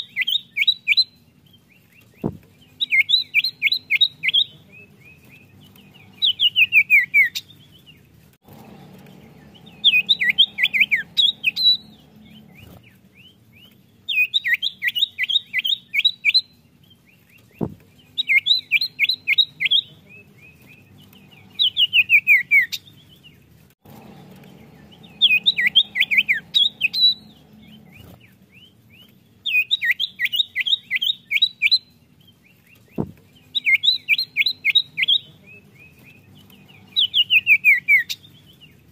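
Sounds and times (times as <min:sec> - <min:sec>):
bird singing chirps: 0:00.0 - 0:38.9.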